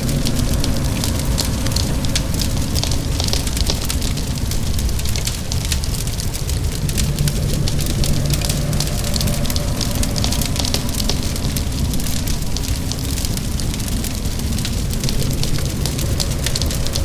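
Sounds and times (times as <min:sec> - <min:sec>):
low rumble: 0:00.0 - 0:17.0
rain: 0:00.0 - 0:17.0
wood fire crackling: 0:00.0 - 0:17.0.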